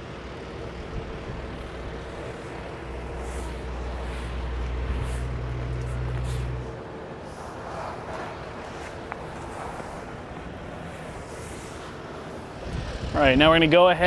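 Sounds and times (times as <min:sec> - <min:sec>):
steady low hum: 0:00.0 - 0:14.0
fabric swishing along a rail: 0:01.6 - 0:12.9.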